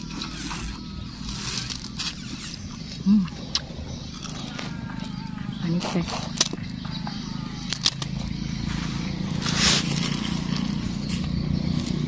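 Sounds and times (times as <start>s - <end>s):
sugarcane crunching when bitten: 0.0s - 8.4s, 9.2s - 12.0s
steady low hum: 0.0s - 12.0s.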